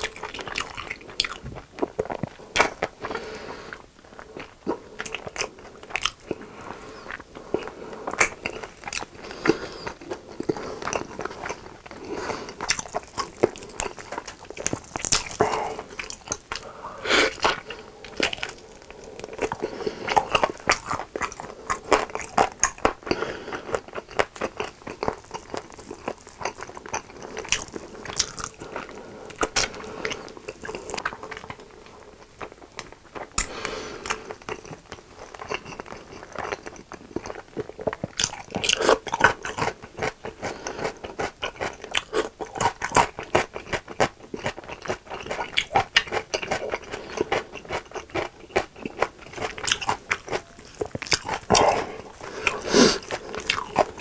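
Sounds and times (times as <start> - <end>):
chewing and biting chicken: 4.2 - 54.0.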